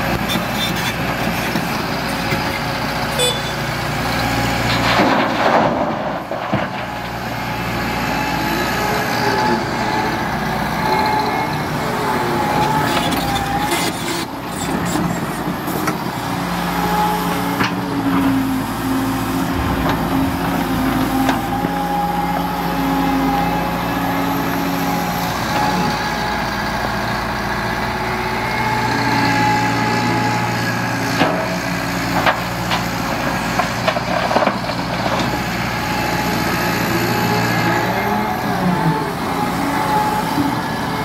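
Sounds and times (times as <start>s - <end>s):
excavator diesel engine: 0.0s - 41.0s.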